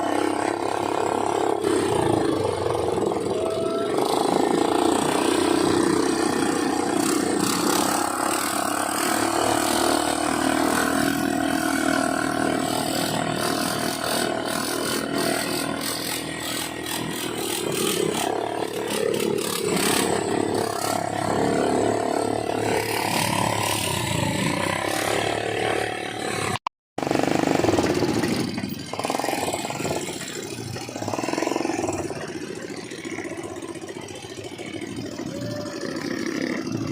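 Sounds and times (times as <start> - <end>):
quad bike engine running: 0.0 - 36.9.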